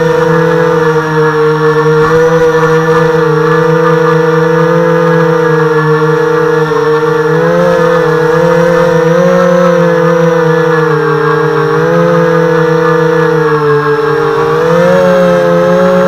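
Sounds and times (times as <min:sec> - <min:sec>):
quadcopter motors droning: 0:00.0 - 0:16.0.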